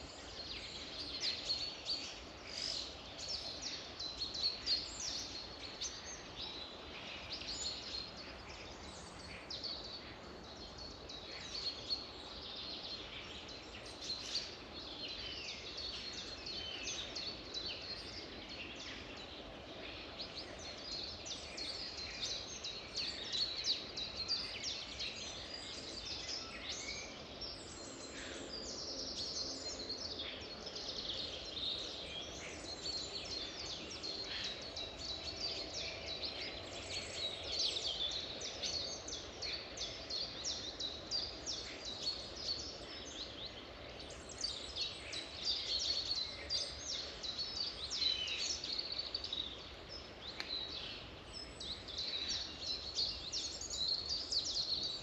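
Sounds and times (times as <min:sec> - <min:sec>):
background hiss: 0:00.0 - 0:55.0
songbirds singing and chirping: 0:00.0 - 0:55.0.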